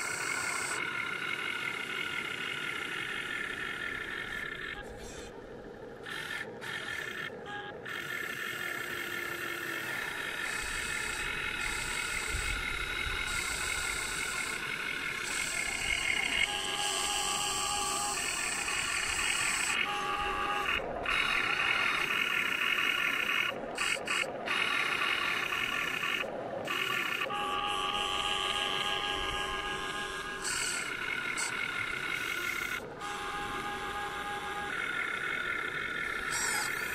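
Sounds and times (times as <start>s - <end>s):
toy excavator motor whine: 0.0s - 5.4s, 6.0s - 36.9s.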